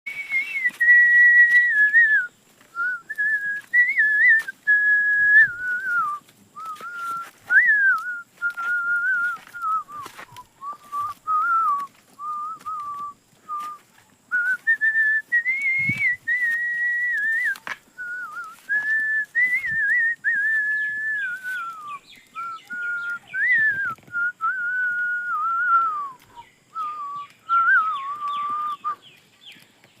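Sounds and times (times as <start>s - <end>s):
person whistling a tune: 0.1s - 29.1s.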